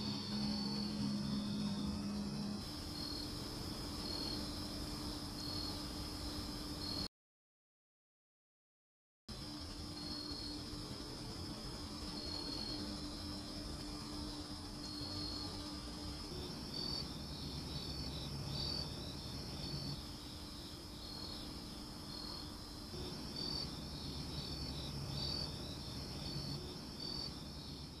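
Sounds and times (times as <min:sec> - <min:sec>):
crickets chirping: 0:00.0 - 0:07.1, 0:09.3 - 0:28.0.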